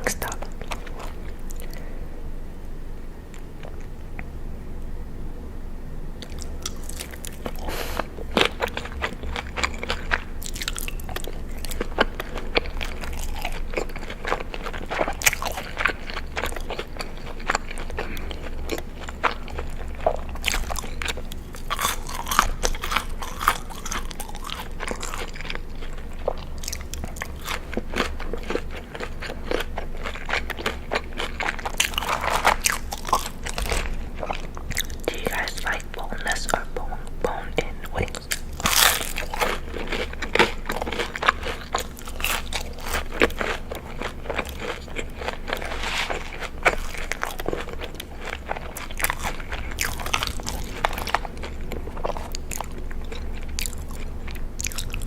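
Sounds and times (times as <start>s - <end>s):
crisp crunching and chewing: 0.0s - 1.9s, 6.2s - 55.0s
low steady hum: 0.0s - 55.0s.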